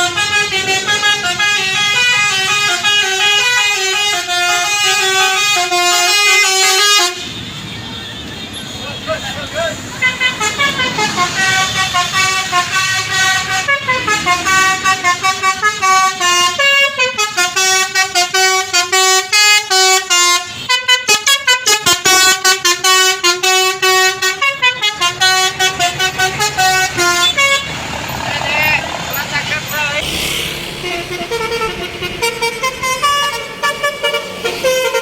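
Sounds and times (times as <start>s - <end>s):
bus horn playing a melody: 0.0s - 7.2s, 10.0s - 27.7s, 30.0s - 35.0s.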